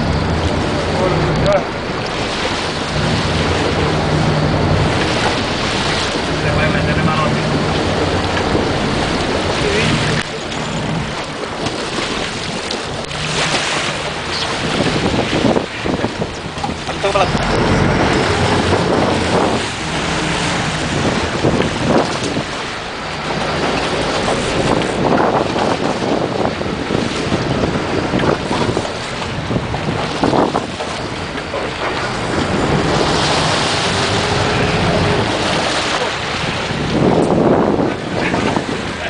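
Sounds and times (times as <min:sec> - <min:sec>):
boat engine running: 0:00.0 - 0:39.0
water splashing along hull: 0:00.0 - 0:39.0
wind buffeting microphone: 0:00.0 - 0:39.0.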